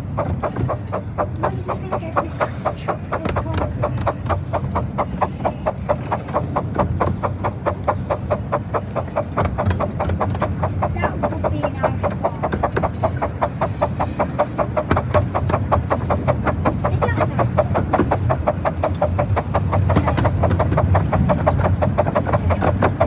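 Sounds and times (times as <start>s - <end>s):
rumble of moving train: 0.0s - 23.0s
steam locomotive chuffing: 0.0s - 23.0s.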